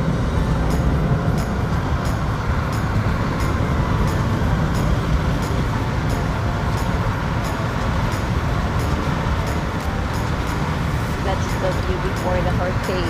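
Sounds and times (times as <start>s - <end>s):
car cabin road noise: 0.0s - 13.0s.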